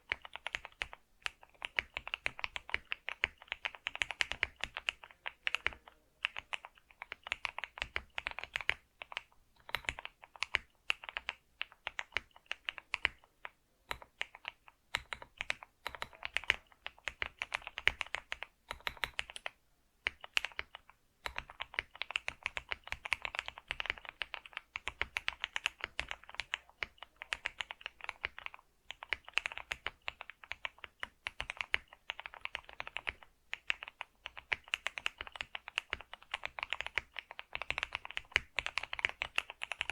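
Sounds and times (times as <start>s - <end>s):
typing on computer keyboard: 0.0s - 39.9s.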